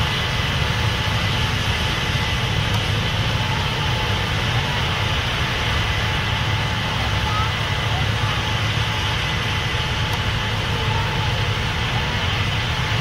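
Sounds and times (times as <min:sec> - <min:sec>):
diesel machinery engine drone: 0:00.0 - 0:13.0.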